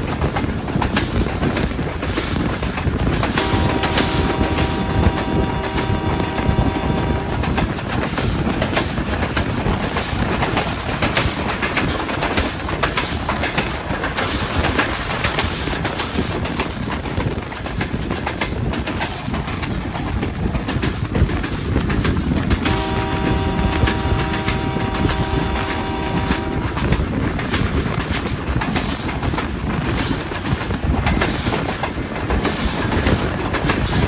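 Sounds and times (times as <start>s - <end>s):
train wheels clattering: 0.0s - 34.0s.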